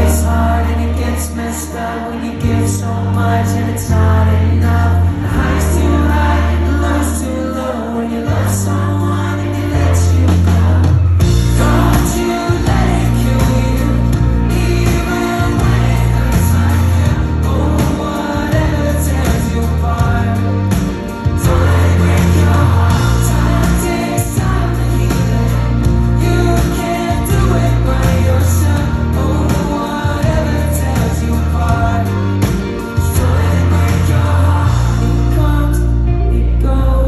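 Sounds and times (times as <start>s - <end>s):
live pop-rock band: 0.0s - 37.0s
man singing into microphone: 0.0s - 37.0s.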